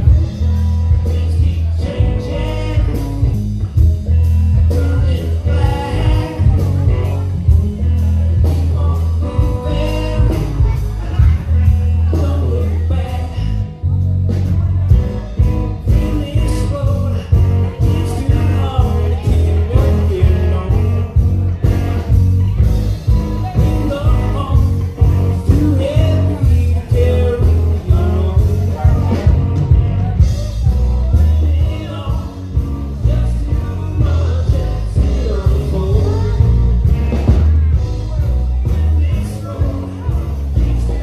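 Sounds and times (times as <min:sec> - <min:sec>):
person singing: 0:00.0 - 0:41.0
rock band playing: 0:00.0 - 0:41.0.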